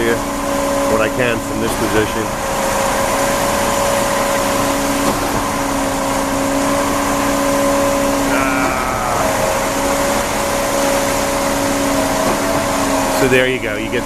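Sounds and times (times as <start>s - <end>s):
concrete pump truck running: 0.0s - 14.0s.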